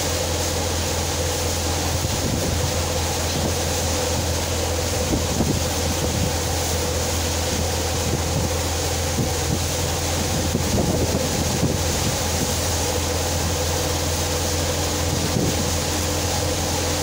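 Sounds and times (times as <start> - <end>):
dense rushing noise: 0.0 - 17.0
tractor engine and thresher hum: 0.0 - 17.0.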